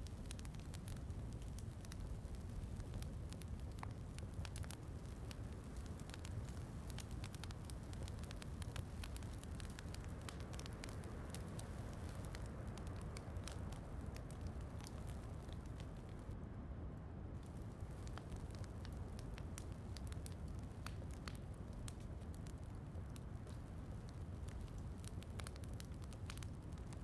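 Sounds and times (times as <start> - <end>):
fireplace crackling and popping: 0.0 - 16.4, 17.4 - 27.0.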